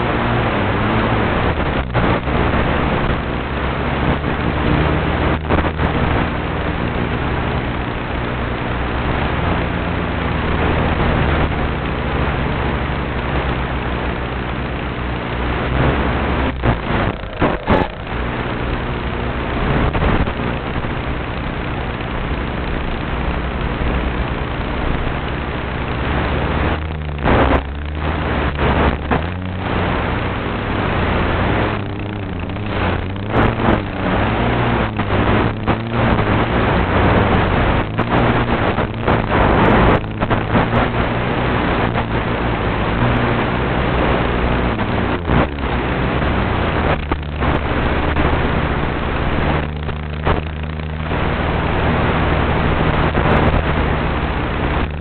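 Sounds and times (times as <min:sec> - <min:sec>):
model airplane motor running: 0:00.0 - 0:54.0
wind noise: 0:00.0 - 0:55.0.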